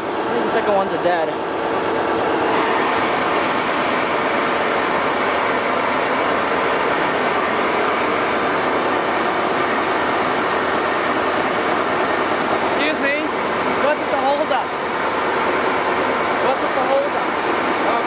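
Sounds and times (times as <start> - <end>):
locomotive engine idling: 0.0 - 18.0.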